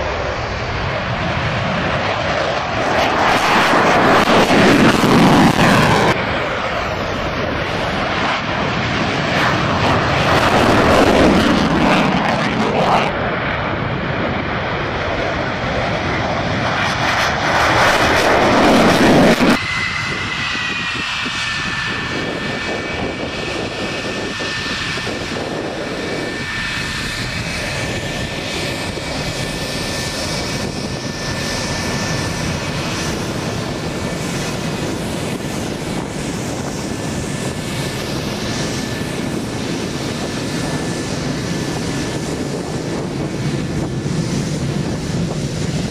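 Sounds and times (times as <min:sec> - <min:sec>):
jet roar taking off: 0:00.0 - 0:45.9
turbojet high whine: 0:00.0 - 0:45.9.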